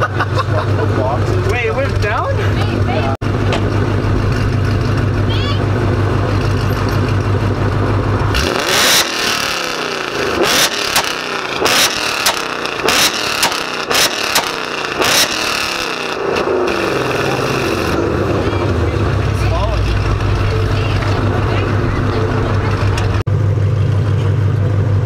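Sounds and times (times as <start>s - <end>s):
engine revving: 0.0s - 23.4s
car engine idling: 0.0s - 25.0s
exhaust bangs: 0.0s - 25.0s.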